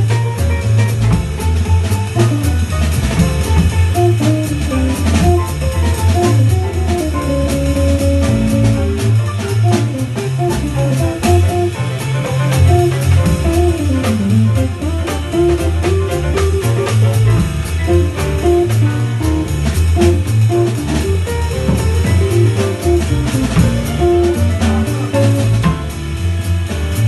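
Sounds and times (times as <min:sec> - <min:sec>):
guitar: 0:00.0 - 0:27.0
jazz band playing: 0:00.0 - 0:27.0.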